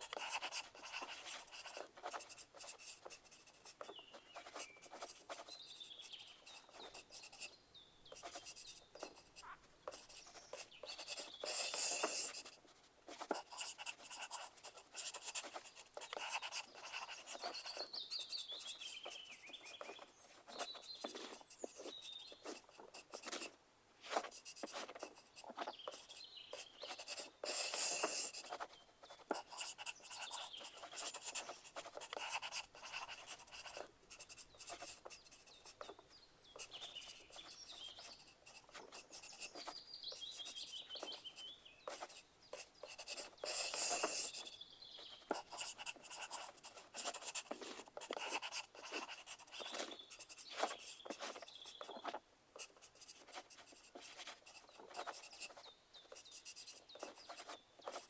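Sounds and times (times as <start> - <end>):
faint bird chirps: 0.0 - 23.5, 24.2 - 58.0
pencil scratching on paper: 0.0 - 36.0, 36.6 - 58.0.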